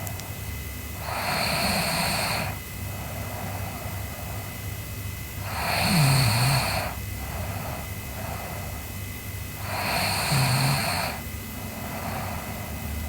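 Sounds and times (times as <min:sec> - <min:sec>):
girl snoring raspily: 0:01.0 - 0:04.6, 0:05.4 - 0:13.0.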